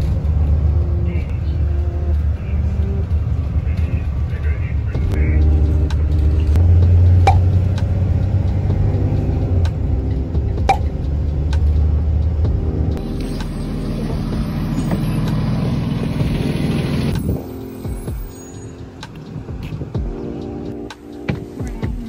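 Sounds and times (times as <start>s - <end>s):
bus engine hum: 0.0s - 21.8s.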